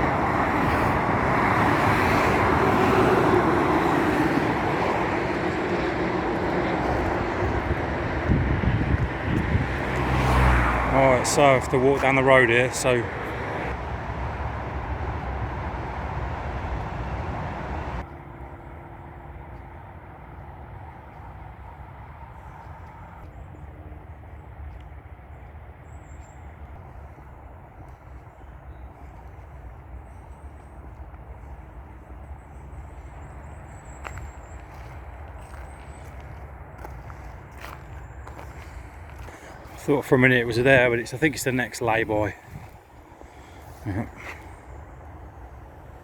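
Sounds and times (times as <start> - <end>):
road traffic hum: 0.0 - 46.0.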